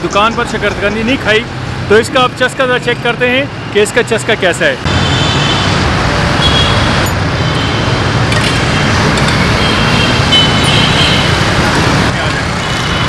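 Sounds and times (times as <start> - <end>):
loud road traffic: 0.0 - 13.0.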